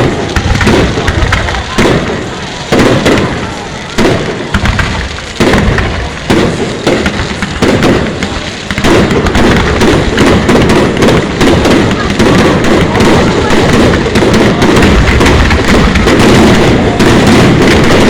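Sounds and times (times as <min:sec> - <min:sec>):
fireworks bangs with rumbling tail: 0:00.0 - 0:18.0.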